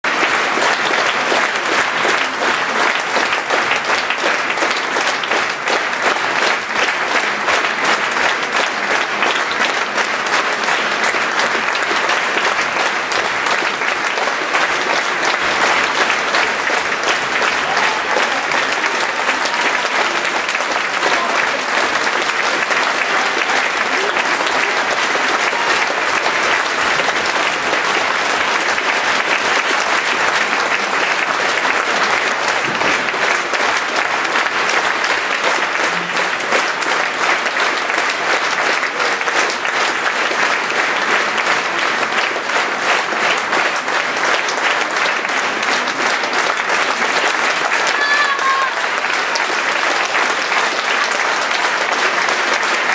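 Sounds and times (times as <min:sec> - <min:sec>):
audience applauding: 0:00.0 - 0:52.9.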